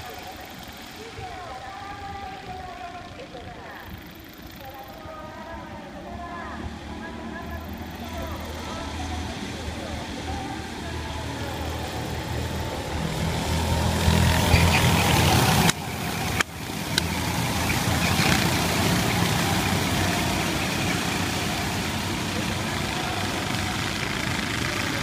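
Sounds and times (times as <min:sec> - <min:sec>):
go-kart engines buzzing: 0:00.0 - 0:25.0.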